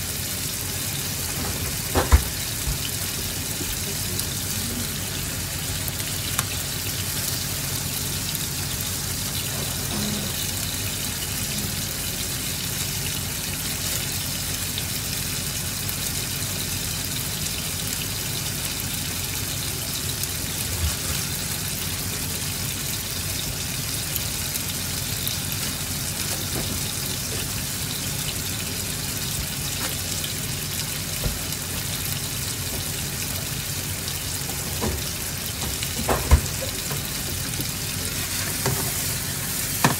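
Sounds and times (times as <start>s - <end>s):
meat sizzling in a pan: 0.0s - 39.9s.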